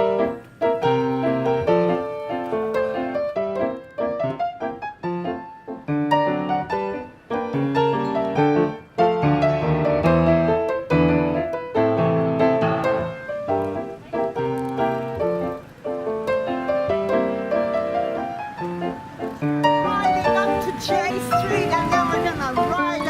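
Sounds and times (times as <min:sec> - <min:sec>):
lively piano music: 0:00.0 - 0:23.0.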